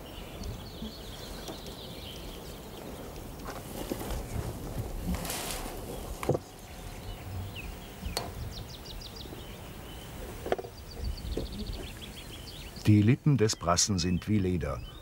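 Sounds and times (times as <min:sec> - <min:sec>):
outdoor riverbank ambience: 0:00.0 - 0:15.0.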